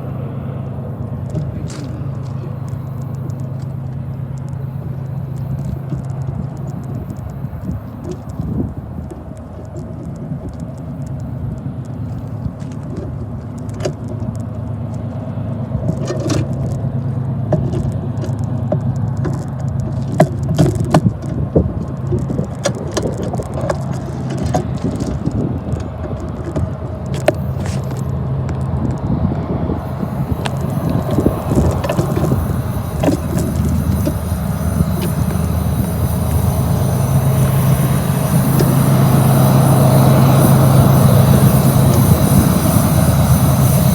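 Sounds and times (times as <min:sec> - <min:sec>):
diesel locomotive engine drone: 0:00.0 - 0:43.9
clicks and rattles: 0:00.9 - 0:43.9.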